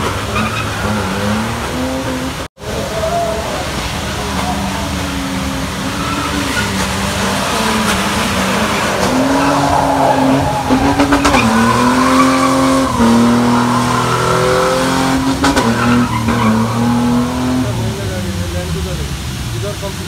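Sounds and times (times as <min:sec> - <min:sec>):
tyres squealing: 0:00.0 - 0:17.9
car engine revving: 0:00.0 - 0:20.0.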